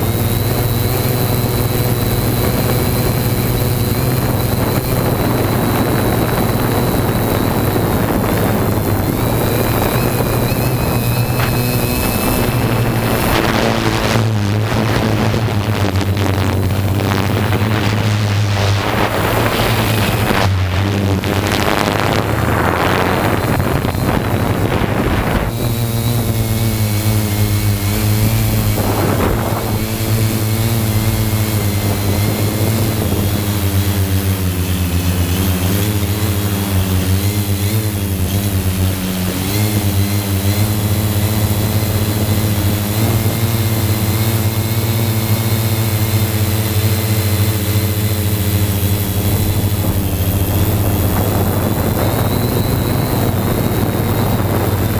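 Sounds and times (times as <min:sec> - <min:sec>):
multirotor drone motors whining: 0:00.0 - 0:54.9
wind buffeting microphone: 0:00.0 - 0:54.9.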